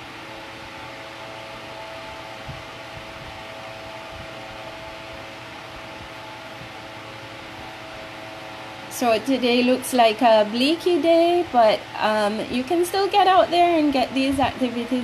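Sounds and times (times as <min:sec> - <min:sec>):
faint hum: 0:00.0 - 0:15.0
fan whirring: 0:00.0 - 0:15.0.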